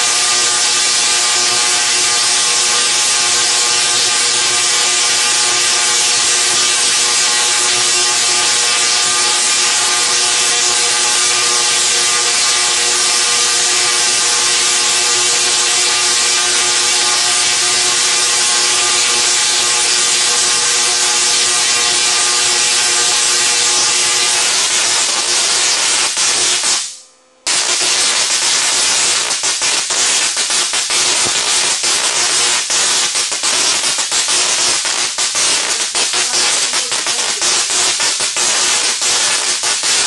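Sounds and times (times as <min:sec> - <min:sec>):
electric arc crackling snaps: 0:00.0 - 0:40.0
tesla coil buzzing hiss: 0:00.0 - 0:40.0.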